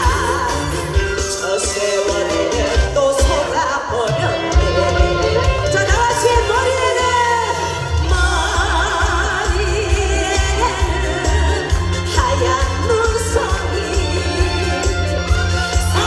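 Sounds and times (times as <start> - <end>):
musical accompaniment with pulsing bass: 0.0 - 16.0
person singing with vibrato: 0.0 - 16.0.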